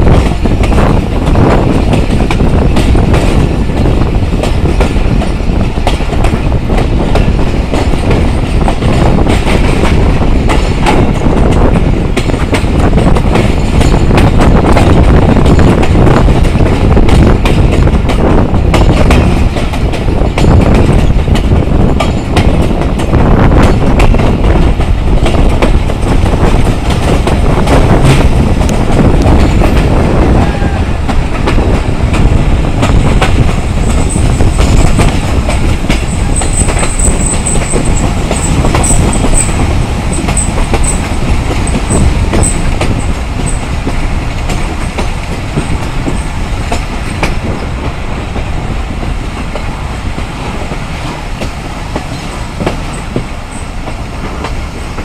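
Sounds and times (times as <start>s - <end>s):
rushing train noise: 0.0s - 55.0s
train wheels clattering over rails: 0.0s - 55.0s.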